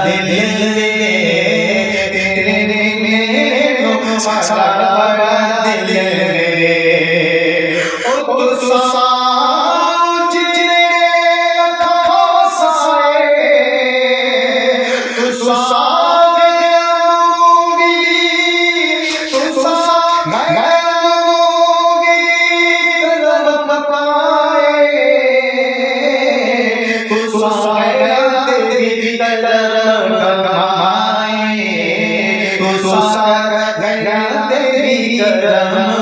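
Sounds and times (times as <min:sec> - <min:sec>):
man singing unaccompanied: 0:00.0 - 0:36.0.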